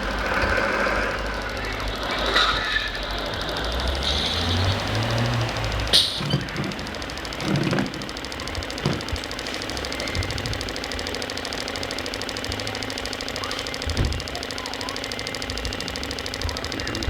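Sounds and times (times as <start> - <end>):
short clatters: 0.0 - 17.0
toy engine idling with ticking: 0.0 - 17.0.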